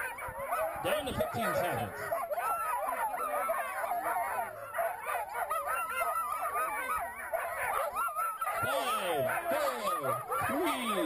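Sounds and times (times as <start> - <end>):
dogs barking and howling: 0.0 - 11.0.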